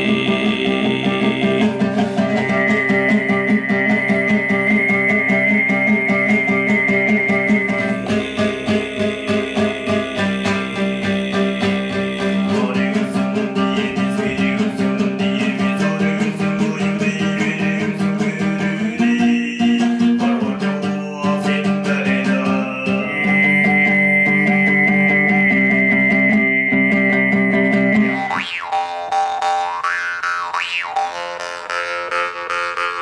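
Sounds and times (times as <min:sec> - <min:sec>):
high whistling overtone: 0:00.0 - 0:17.8, 0:22.2 - 0:31.4
plucked string accompaniment: 0:00.0 - 0:33.0
throat singing drone: 0:00.0 - 0:33.0.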